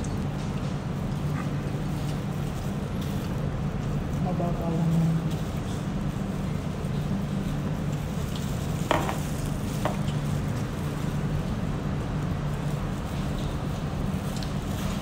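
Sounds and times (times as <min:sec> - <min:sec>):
restaurant background hum: 0:00.0 - 0:15.0.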